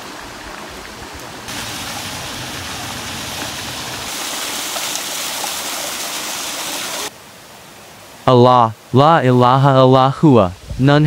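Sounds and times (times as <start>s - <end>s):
running water rushing: 0.0s - 10.6s.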